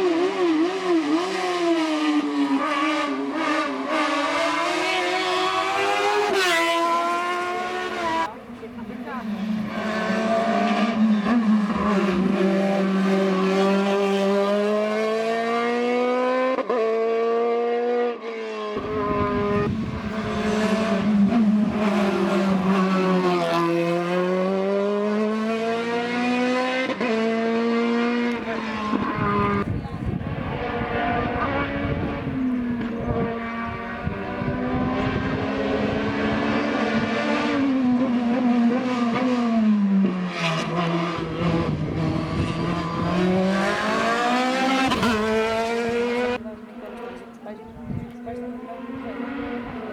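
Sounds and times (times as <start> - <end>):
race car engine at high revs: 0.0 - 49.9.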